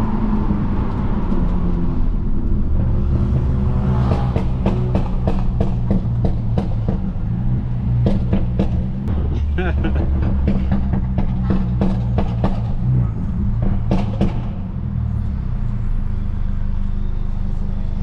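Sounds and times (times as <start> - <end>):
car engine and exhaust droning: 0.0 - 18.0.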